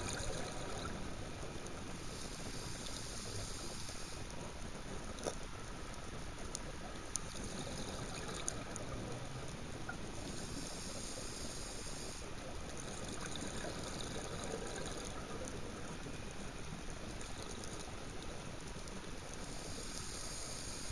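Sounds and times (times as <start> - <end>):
scuba regulator bubbling: 0.0 - 5.6, 6.5 - 20.7
muffled underwater hiss: 0.0 - 20.9.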